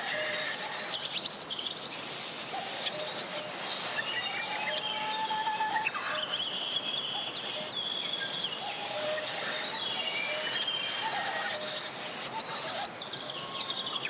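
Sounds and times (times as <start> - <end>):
birds singing and calling: 0.0 - 14.0.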